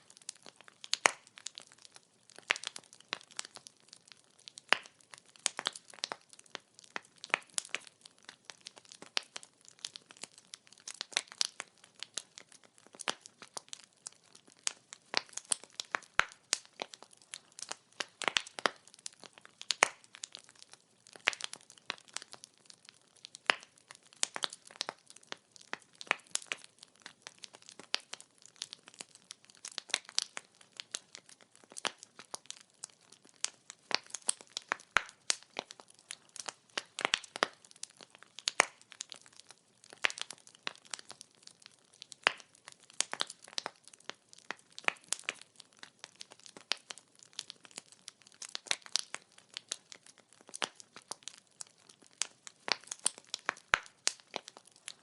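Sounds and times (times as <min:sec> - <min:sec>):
firewood crackling: 0:00.0 - 0:55.0.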